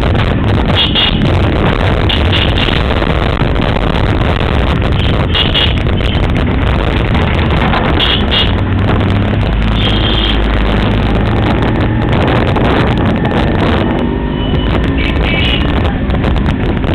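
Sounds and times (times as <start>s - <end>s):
motorcycle engine running: 0.0s - 16.9s
wind on microphone: 0.0s - 16.9s.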